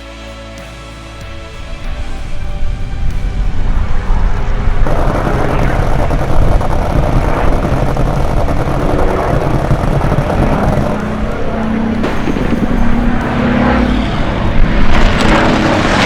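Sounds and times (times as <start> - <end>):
aircraft piston engine in flight: 0.6 - 16.0
low droning tone: 1.2 - 16.0.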